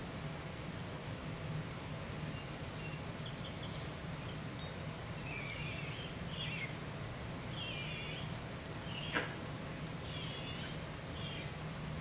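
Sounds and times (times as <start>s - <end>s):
steady low hum: 0.0s - 12.0s
small birds chirping: 2.2s - 12.0s.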